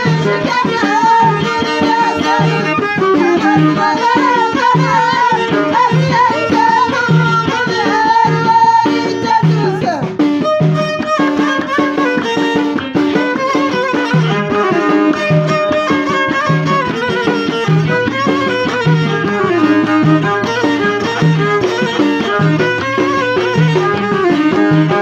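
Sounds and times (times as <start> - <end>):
hand drum beat: 0.0 - 25.0
wavering melody: 0.0 - 25.0.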